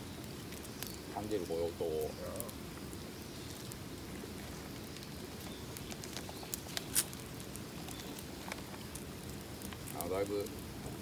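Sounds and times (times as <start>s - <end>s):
campfire burning: 0.0s - 11.0s
fire crackling pops: 0.0s - 11.0s.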